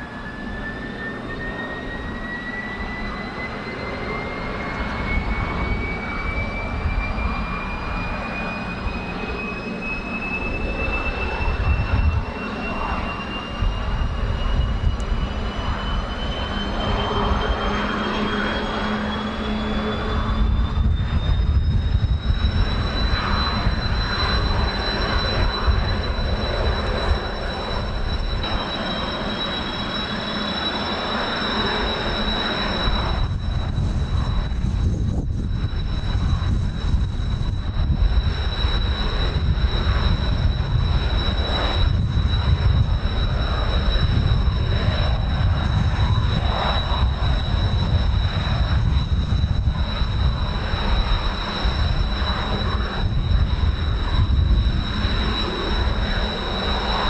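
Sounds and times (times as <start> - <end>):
jet engines whining: 0.0 - 57.0
rising whine: 0.0 - 57.0
wind rumbling on microphone: 0.0 - 57.0.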